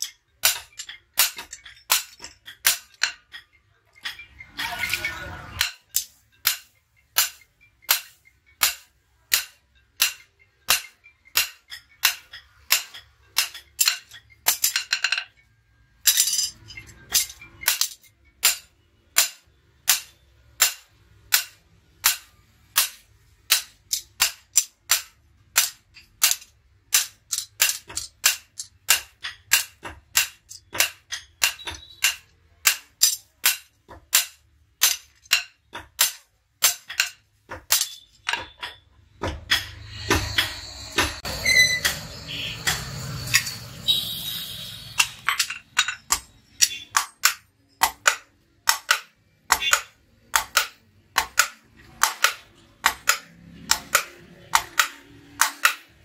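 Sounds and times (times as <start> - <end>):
hammer striking metal on anvil: 0.0 - 4.2, 5.6 - 15.2, 16.0 - 56.0.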